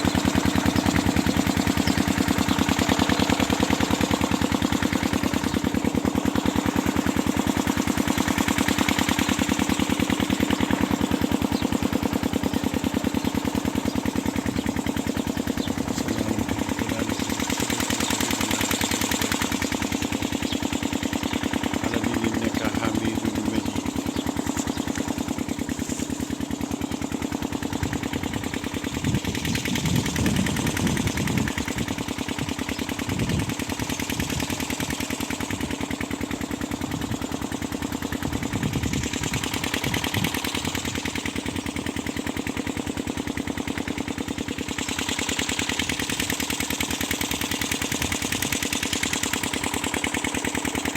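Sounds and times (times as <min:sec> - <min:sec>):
water pump engine running: 0:00.0 - 0:50.9.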